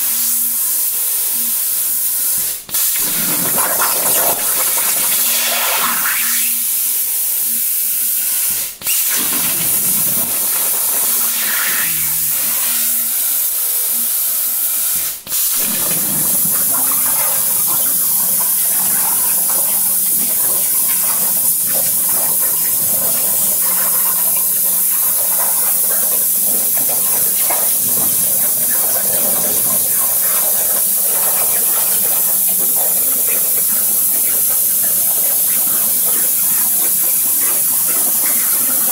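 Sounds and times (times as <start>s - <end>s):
plasma cutter torch hissing: 0.0s - 38.9s.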